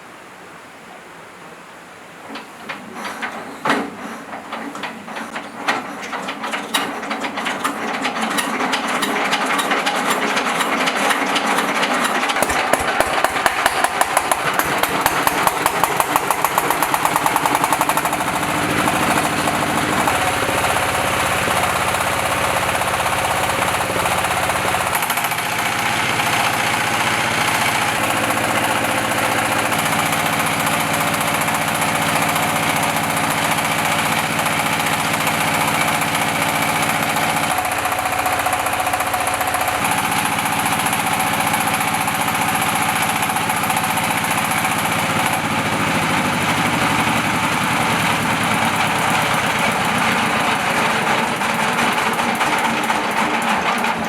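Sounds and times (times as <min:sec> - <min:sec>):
engine being hand-cranked: 0:02.4 - 0:54.0
engine running steadily: 0:07.6 - 0:54.0.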